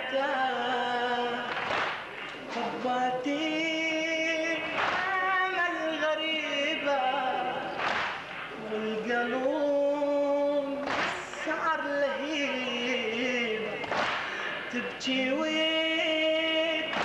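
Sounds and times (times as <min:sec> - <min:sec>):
man chanting into a microphone: 0:00.0 - 0:01.7, 0:02.4 - 0:07.9, 0:08.5 - 0:17.0.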